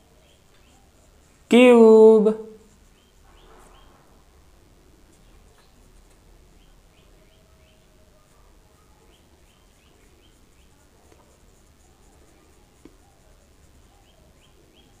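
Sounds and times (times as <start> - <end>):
small birds chirping: 0.0 - 1.6, 2.4 - 4.3, 5.0 - 15.0
paintbrush strokes on paper: 0.0 - 4.3, 5.0 - 15.0.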